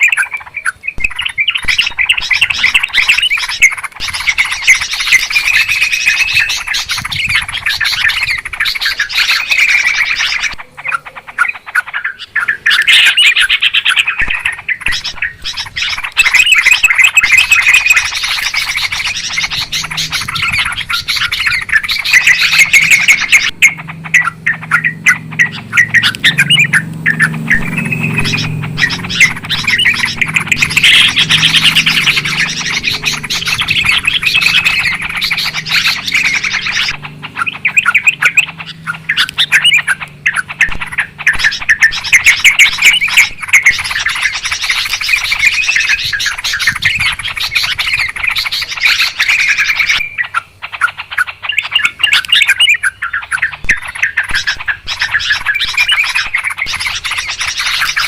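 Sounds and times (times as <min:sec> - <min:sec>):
bulbuls chattering: 0:00.0 - 0:58.0.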